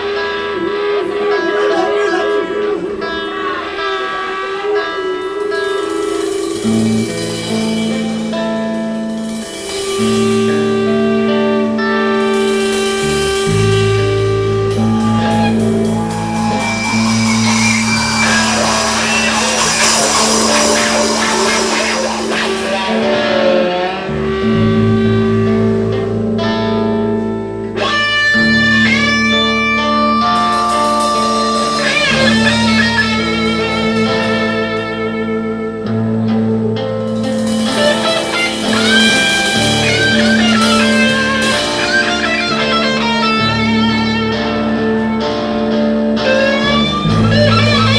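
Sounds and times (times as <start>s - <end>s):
electric guitar lead bending notes: 0.0s - 47.9s
bass line: 5.5s - 44.6s.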